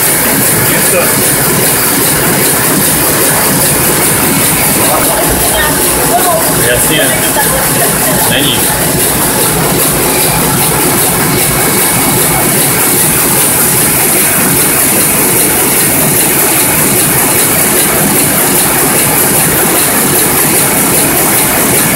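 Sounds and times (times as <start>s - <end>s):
printing press running: 0.0s - 21.9s.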